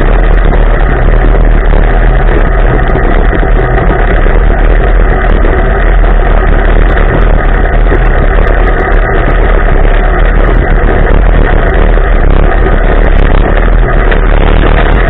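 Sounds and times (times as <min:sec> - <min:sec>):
rushing noise: 0:00.0 - 0:15.0
vehicle engine running: 0:00.0 - 0:15.0.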